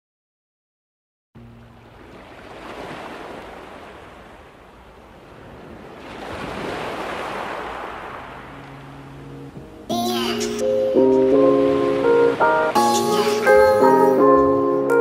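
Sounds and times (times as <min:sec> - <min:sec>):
sea water rushing: 0:01.4 - 0:15.0
wind: 0:01.4 - 0:15.0.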